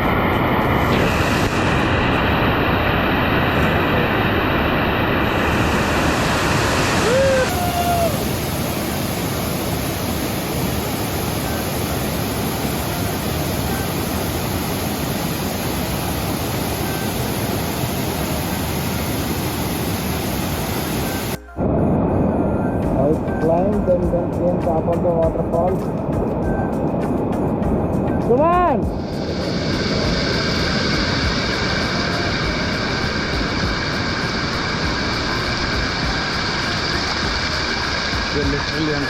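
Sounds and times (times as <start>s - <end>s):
waterfall rushing water: 0.0s - 21.4s, 28.9s - 39.0s.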